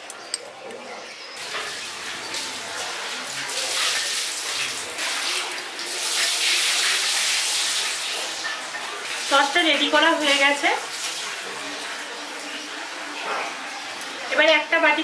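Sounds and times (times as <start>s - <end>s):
water pouring and splashing: 1.3s - 15.0s.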